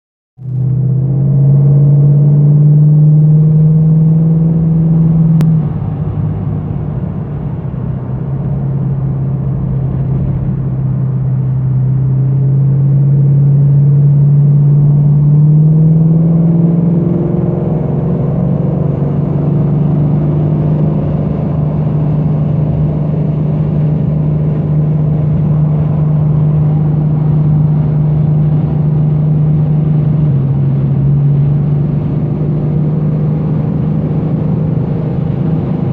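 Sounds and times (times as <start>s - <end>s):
car engine running: 0.4s - 35.9s.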